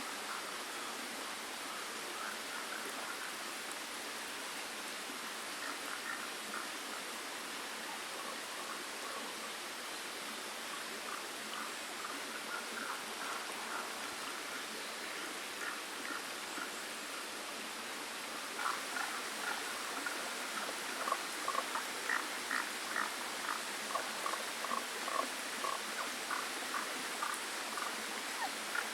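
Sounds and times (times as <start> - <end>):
creek flowing: 0.0 - 28.9.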